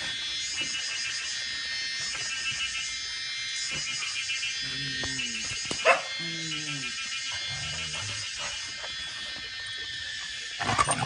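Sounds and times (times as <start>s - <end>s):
high-pitched buzzing drone: 0.0s - 11.0s.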